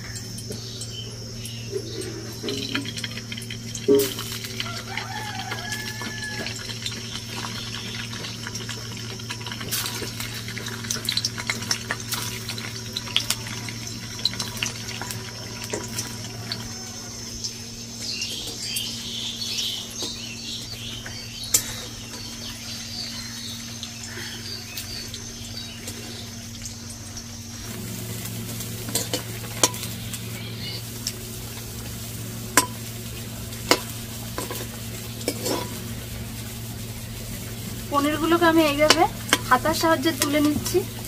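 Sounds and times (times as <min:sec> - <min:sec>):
steady low hum: 0:00.0 - 0:05.0, 0:05.9 - 0:41.0
cheese sizzling in hot oil: 0:00.0 - 0:41.0
oil popping and crackling: 0:00.0 - 0:41.0.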